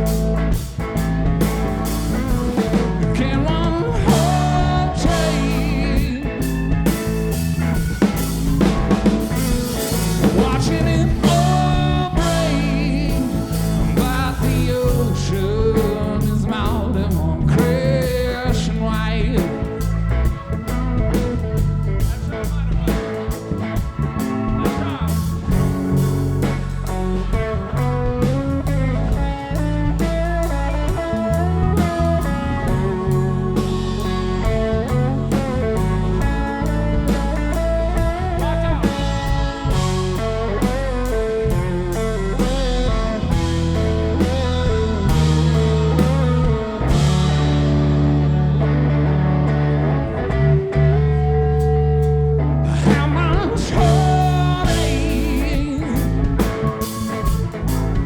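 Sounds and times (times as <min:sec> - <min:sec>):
bass line: 0:00.0 - 0:58.0
drums: 0:00.0 - 0:58.0
electric guitar lead: 0:00.0 - 0:58.0.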